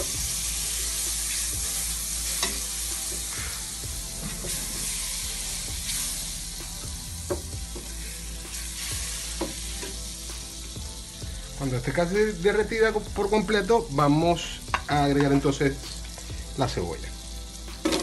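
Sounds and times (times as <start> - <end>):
butter sizzling in a pot: 0.0 - 18.0.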